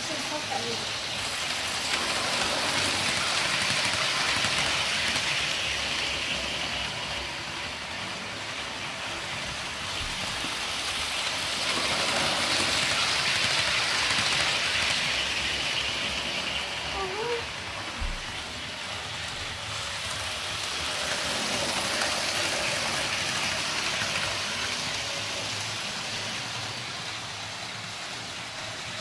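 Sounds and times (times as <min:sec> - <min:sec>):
model train running on track: 0:00.0 - 0:29.0.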